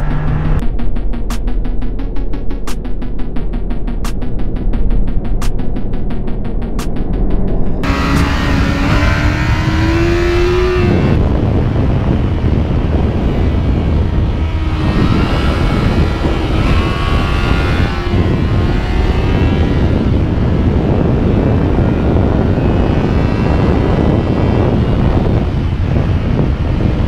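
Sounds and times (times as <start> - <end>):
motorcycle engine revving: 0.0 - 27.0
wind rush on microphone: 4.3 - 27.0.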